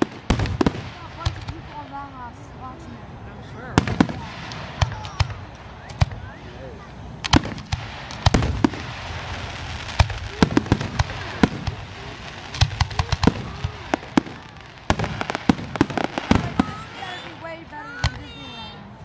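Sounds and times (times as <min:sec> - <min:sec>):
firework bangs: 0:00.0 - 0:02.9, 0:03.6 - 0:18.8
firework crackling: 0:00.0 - 0:19.0.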